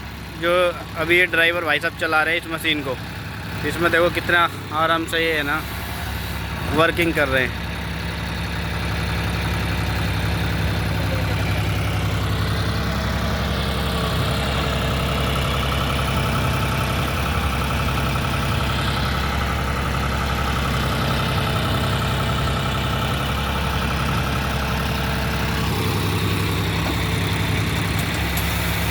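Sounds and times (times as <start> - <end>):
diesel tractor engine running: 0.0 - 28.9.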